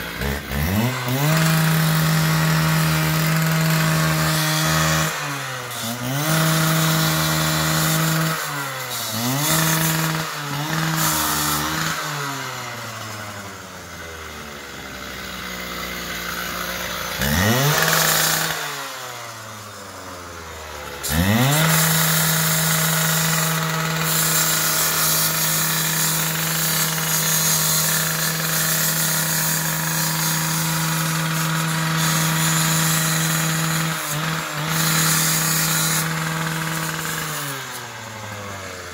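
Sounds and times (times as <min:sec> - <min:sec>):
two-stroke saw engine revving: 0:00.0 - 0:38.9.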